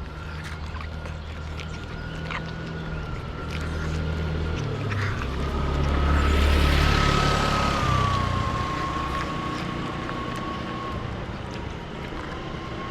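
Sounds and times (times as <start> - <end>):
vehicle passing on road: 0.0 - 12.9.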